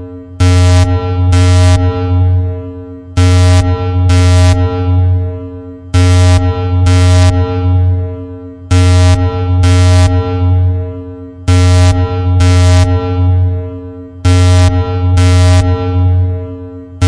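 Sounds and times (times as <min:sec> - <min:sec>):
electronic klaxon blasts: 0:00.0 - 0:17.0
steady low hum: 0:00.0 - 0:17.0.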